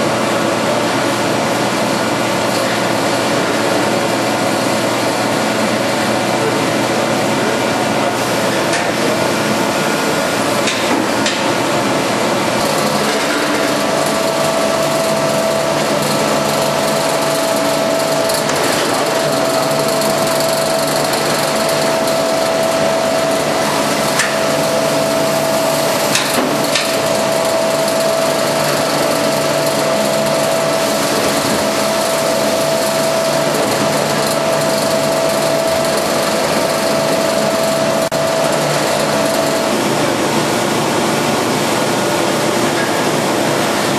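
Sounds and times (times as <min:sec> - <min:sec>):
steady machine whine: 0:00.0 - 0:43.9
packaging machine running: 0:00.2 - 0:43.9.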